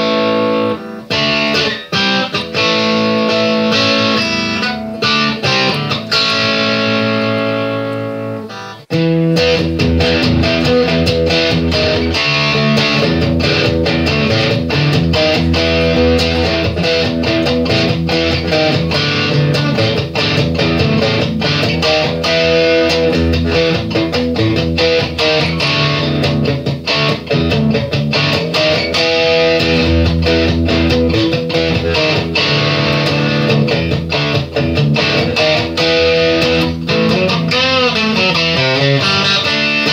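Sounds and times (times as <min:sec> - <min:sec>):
electric guitar music with beat: 0:00.0 - 0:39.9.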